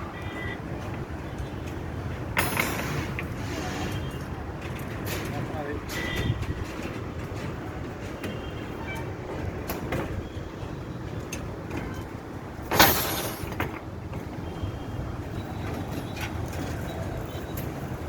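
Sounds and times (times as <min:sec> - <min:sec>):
low rumble of heavy engine: 0:00.0 - 0:18.0.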